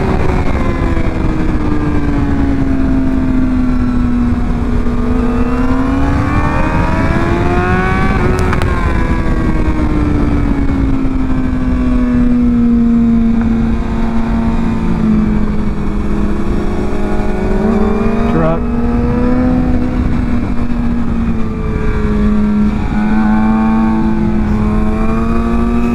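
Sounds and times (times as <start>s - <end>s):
motorcycle engine accelerating: 0.0s - 25.9s
wind rush: 0.0s - 25.9s.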